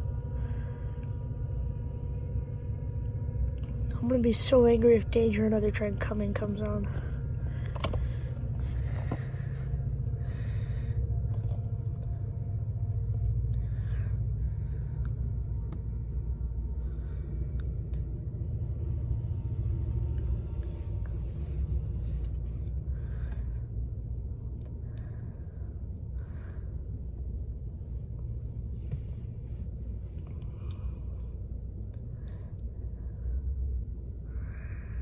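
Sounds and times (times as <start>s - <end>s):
train passing rumble: 0.0s - 35.0s.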